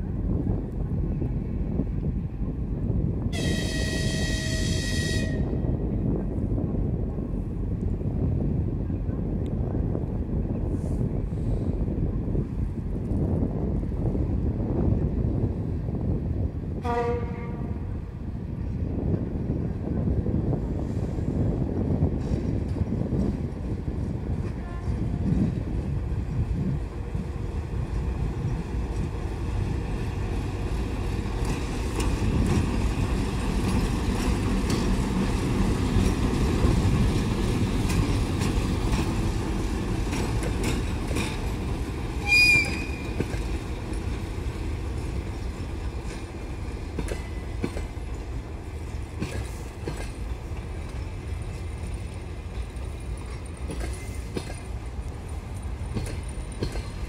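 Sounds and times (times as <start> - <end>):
diesel locomotive engine rumbling: 0.0 - 57.0
train coaches rolling by: 0.0 - 57.0.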